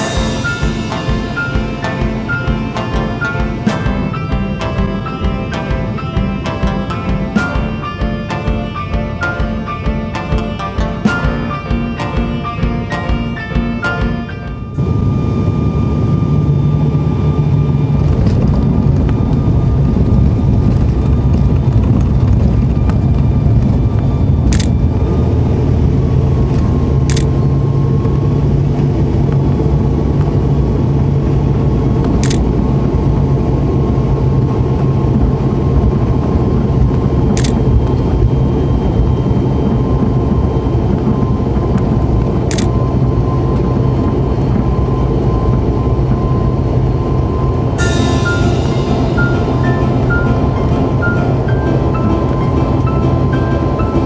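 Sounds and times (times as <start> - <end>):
turboprop engines droning in cabin: 0.0 - 54.0.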